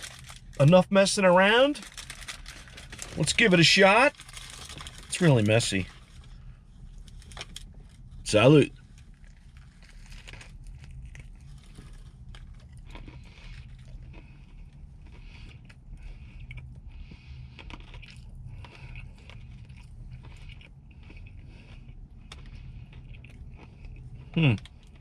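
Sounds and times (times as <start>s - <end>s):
chewing crunchy fried chicken: 0.0s - 0.7s, 1.8s - 25.0s
steady low hum: 0.0s - 25.0s.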